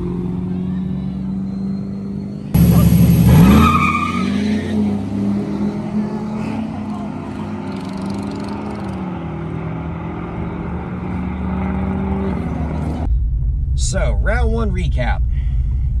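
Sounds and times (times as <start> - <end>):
truck engine revving: 0.0 - 13.1.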